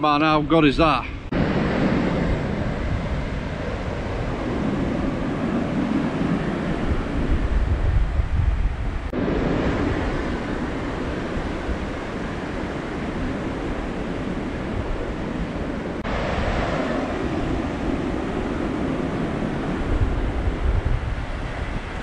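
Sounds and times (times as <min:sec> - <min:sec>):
wind buffeting microphone: 0:00.0 - 0:22.0
surf breaking on beach: 0:00.9 - 0:22.0.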